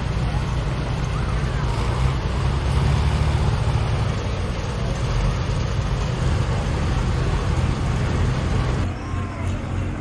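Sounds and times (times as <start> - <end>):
tractor diesel engine rumble: 0.0 - 10.0.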